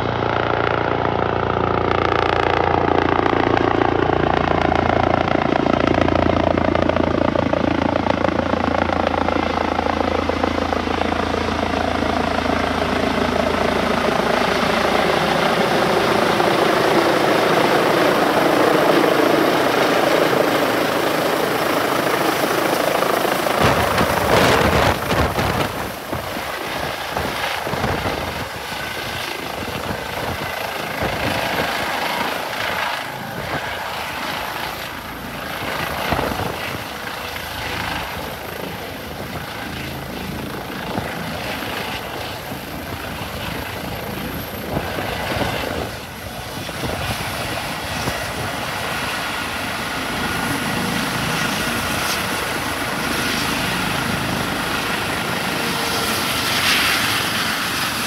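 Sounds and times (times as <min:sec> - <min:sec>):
helicopter rotor and turbines: 0:00.0 - 0:58.0.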